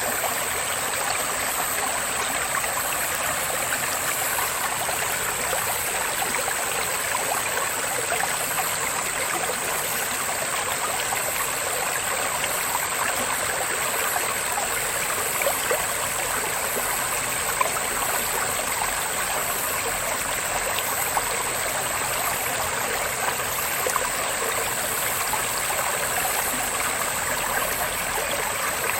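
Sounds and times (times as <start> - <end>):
cicadas droning: 0.0 - 28.9.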